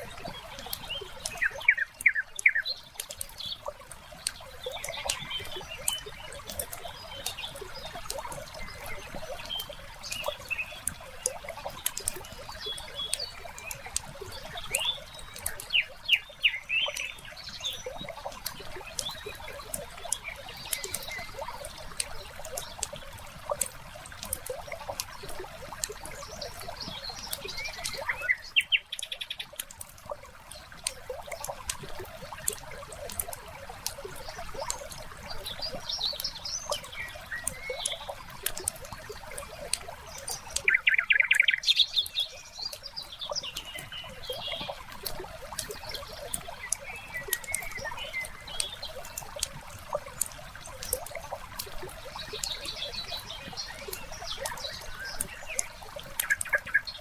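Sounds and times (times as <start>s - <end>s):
birds chirping: 0.0s - 57.0s
trickle of water: 0.0s - 57.0s.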